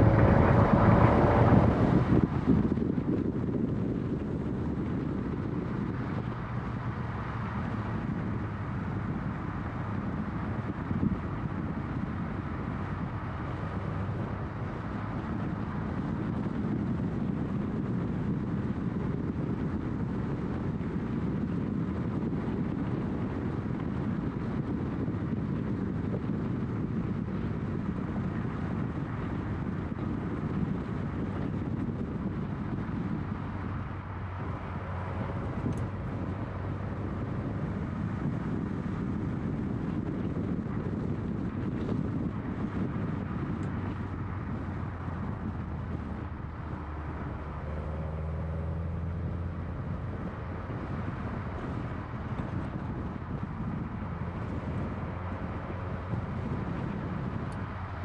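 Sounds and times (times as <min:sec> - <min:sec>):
car engine cruising: 0:00.0 - 0:58.0
wind rush: 0:00.0 - 0:58.0.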